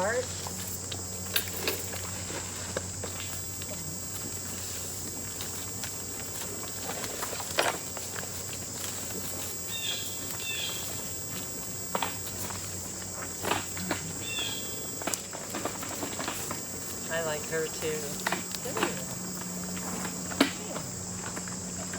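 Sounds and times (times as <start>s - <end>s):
insects chorus: 0.0s - 21.9s
footsteps in grass: 0.3s - 21.0s.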